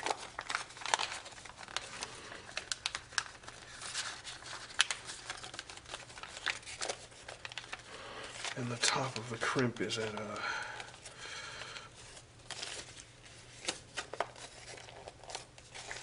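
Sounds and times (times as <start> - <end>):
foil paper crinkling: 0.0 - 16.0.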